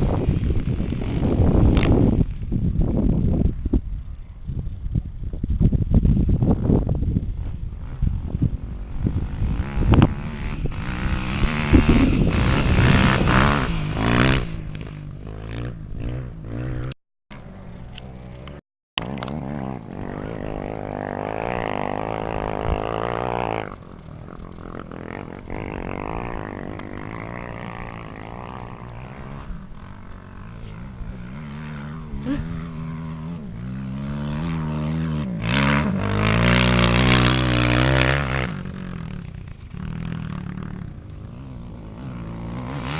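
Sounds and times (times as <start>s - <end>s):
motorcycle engines revving: 6.4s - 42.9s.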